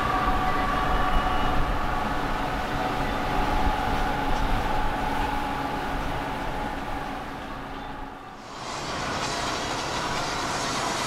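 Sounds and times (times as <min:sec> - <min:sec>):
boat engines rumbling: 0:00.0 - 0:11.0
faint high whine: 0:00.0 - 0:11.0.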